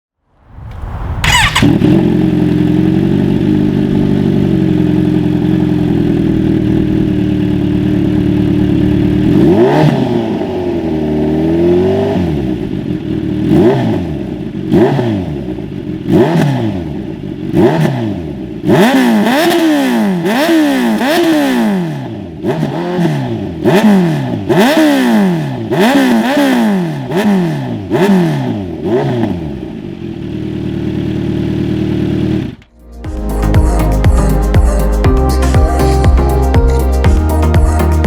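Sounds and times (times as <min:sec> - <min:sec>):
motorcycle engine idling and revving: 0:00.7 - 0:38.0.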